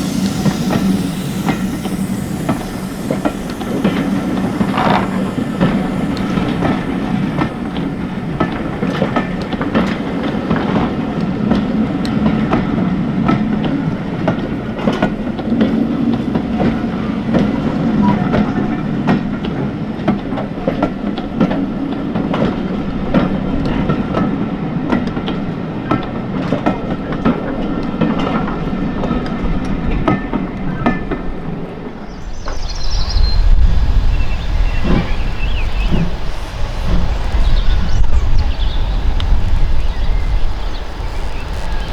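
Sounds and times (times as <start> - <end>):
train carriages rumbling past: 0.0 - 41.9.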